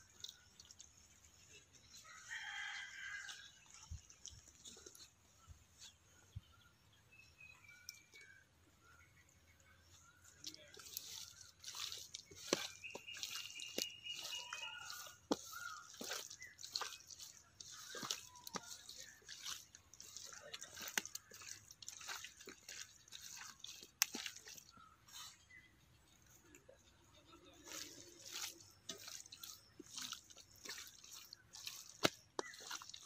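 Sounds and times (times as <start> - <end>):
wet squelches of raw meat: 0.0 - 6.0, 9.9 - 33.0.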